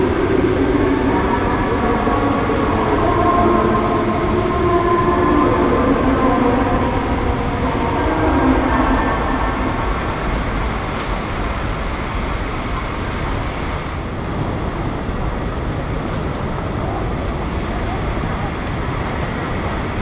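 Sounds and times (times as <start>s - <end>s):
busy airport hall rumble: 0.0s - 20.0s.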